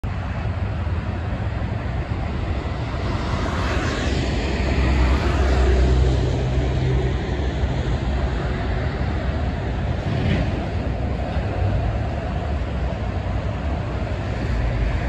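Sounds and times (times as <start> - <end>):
highway traffic noise: 0.0 - 15.0
truck passing with diesel drone: 0.1 - 15.0.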